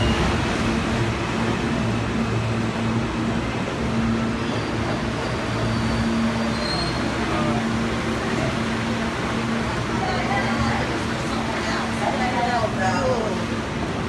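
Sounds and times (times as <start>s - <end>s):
station noise: 0.0s - 14.0s
subway train pulling in: 0.0s - 14.0s.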